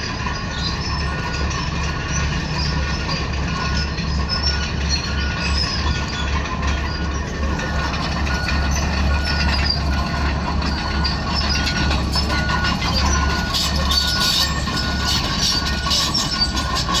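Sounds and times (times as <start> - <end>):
bulldozer diesel rumble: 0.0 - 17.0
steel tracks clanking and squealing: 0.0 - 17.0.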